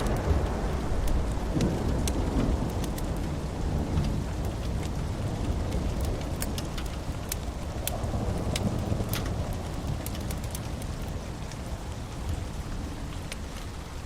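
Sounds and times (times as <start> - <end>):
low thunder rumble: 0.0 - 14.0
steady rain: 0.0 - 14.0.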